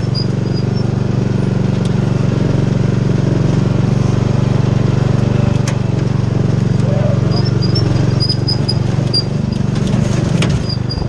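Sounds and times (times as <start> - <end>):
riding lawn mower engine running: 0.0 - 11.0.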